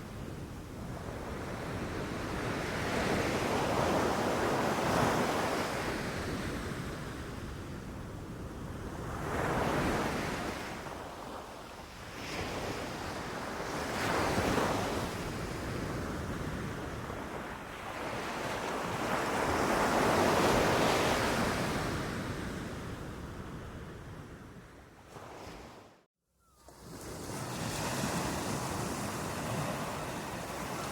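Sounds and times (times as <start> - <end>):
ocean waves breaking on beach: 0.0 - 25.9, 26.6 - 30.9
wind: 0.0 - 30.9.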